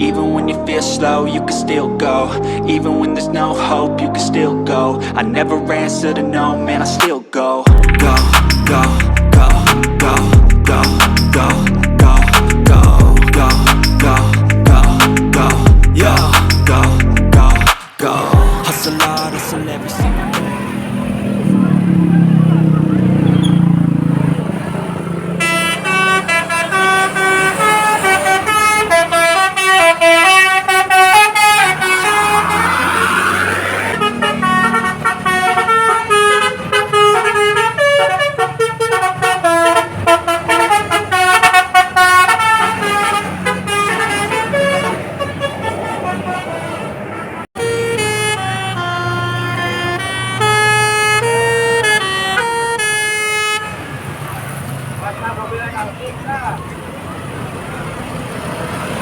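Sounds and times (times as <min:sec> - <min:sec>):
multi-tone bus horn melody: 0:00.0 - 0:07.0, 0:07.7 - 0:54.4
bus engine running: 0:07.7 - 0:59.0.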